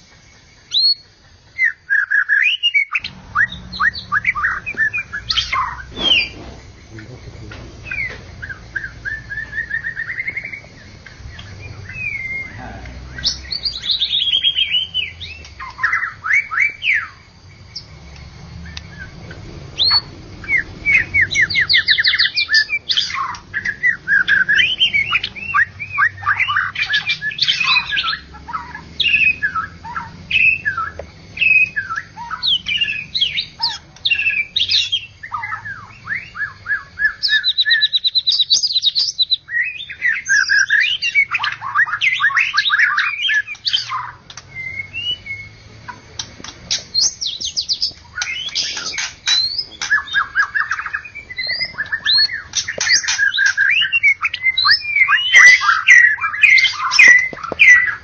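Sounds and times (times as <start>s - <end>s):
bird singing trills and whistles: 0.0s - 58.0s.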